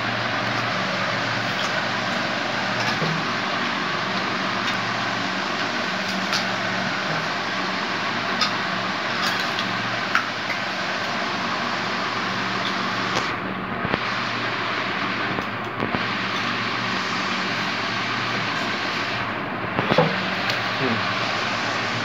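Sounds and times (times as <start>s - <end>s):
fan whirring hiss: 0.0s - 22.0s.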